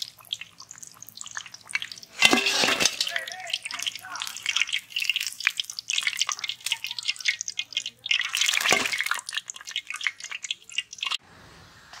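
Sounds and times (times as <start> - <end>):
hot oil sizzling and crackling: 0.0 - 11.2.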